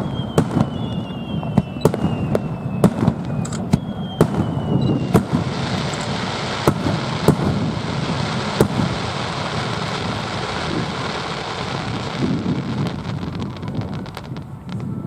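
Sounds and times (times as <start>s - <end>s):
firework bangs: 0.0s - 15.0s
rumble and crackle of fireworks: 0.0s - 15.0s.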